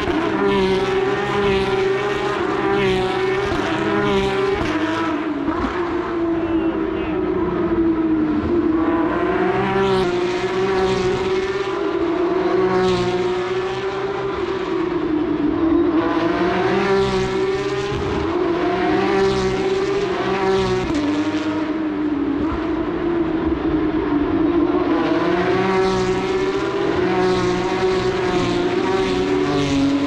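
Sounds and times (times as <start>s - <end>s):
race car engines accelerating: 0.0s - 30.0s
steady engine drone: 0.0s - 30.0s.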